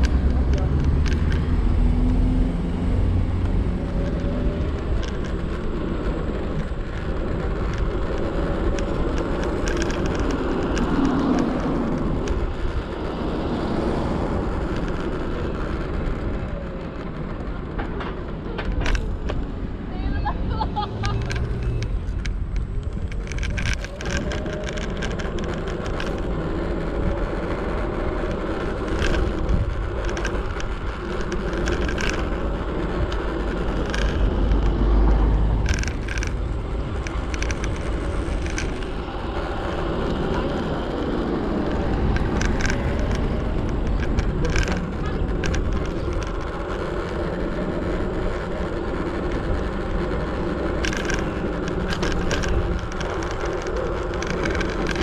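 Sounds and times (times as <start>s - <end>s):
scooter tyres rumbling on pavement: 0.0s - 55.0s.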